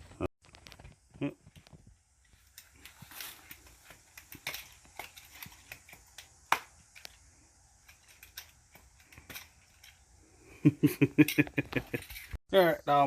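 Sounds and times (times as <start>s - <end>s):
small objects clicking and tapping: 0.4s - 10.1s, 11.1s - 12.4s.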